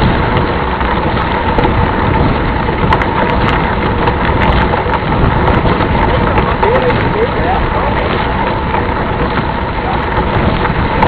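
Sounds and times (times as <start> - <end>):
bike rattling and crunching: 0.0 - 11.0
wind rush on microphone: 0.0 - 11.0.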